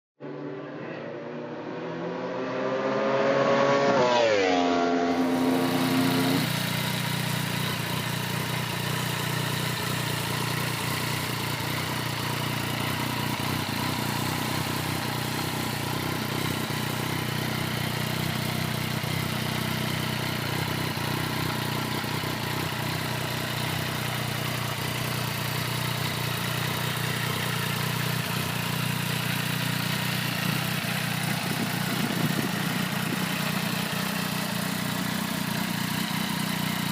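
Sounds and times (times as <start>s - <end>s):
motorcycle engine revving and idling: 0.2s - 36.9s.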